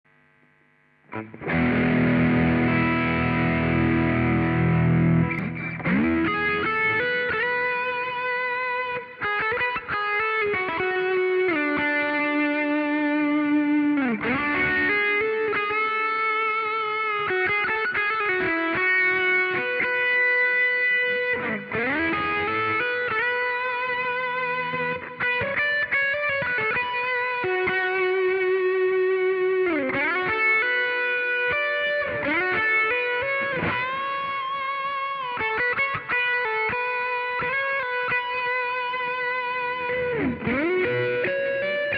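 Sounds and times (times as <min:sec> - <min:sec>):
overdriven electric guitar: 0:00.6 - 0:41.9.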